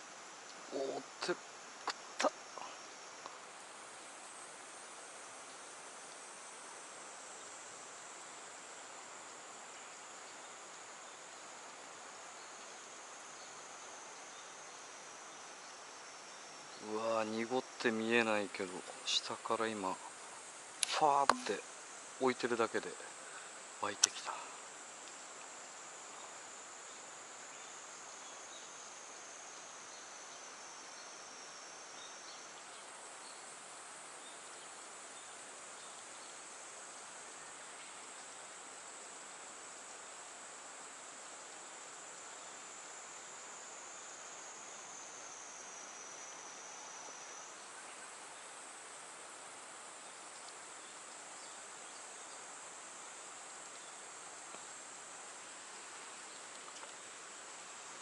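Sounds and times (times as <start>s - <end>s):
insects buzzing: 0.0s - 58.0s
soft background hiss: 0.0s - 58.0s.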